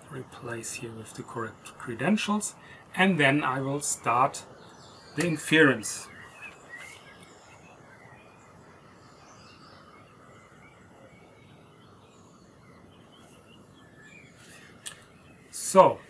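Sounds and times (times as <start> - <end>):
outdoor background noise: 0.0 - 16.0
soft bird chirps: 0.0 - 16.0.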